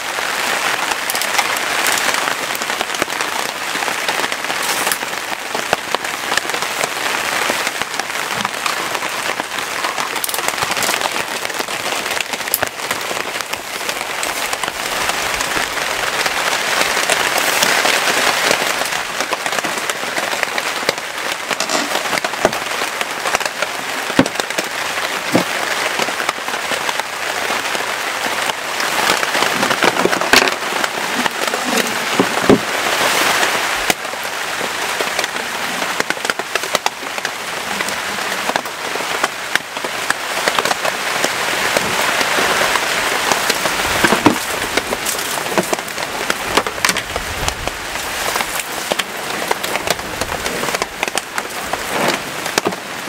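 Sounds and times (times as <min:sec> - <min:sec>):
heavy rain: 0:00.0 - 0:53.0
large raindrops tapping: 0:00.0 - 0:53.0.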